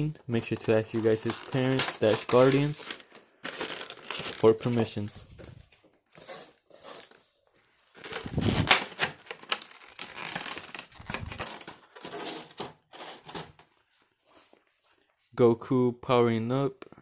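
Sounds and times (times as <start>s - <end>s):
plastic packaging rustling: 0.4s - 14.6s.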